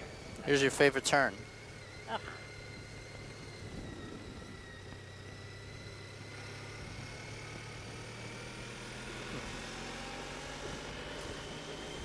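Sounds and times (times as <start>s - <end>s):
motorcycle engine running: 0.0s - 12.0s
road noise: 0.0s - 12.0s
thin whine rising: 0.0s - 12.0s.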